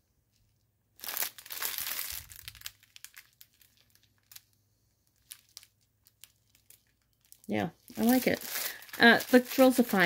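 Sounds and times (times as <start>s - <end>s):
plastic packets crinkling: 1.0s - 10.0s.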